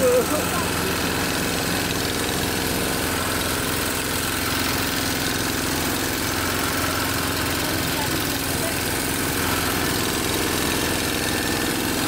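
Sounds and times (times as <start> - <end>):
walking tractor engine running: 0.0 - 12.0.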